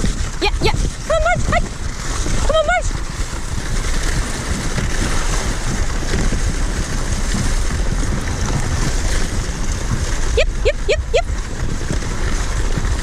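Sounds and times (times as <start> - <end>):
kicksled gliding over snow: 0.0 - 13.0
wind buffeting microphone: 0.0 - 13.0.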